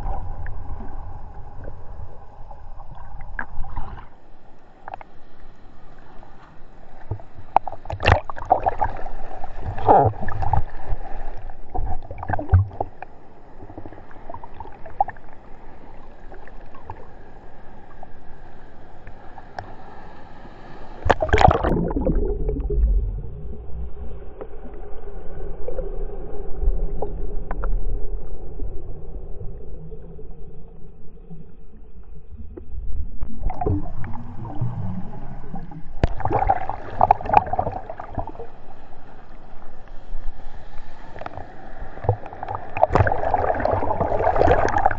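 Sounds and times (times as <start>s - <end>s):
muffled underwater rumble: 0.0s - 20.0s, 20.9s - 44.9s
surf water rushing and splashing: 0.0s - 30.7s, 33.0s - 44.9s.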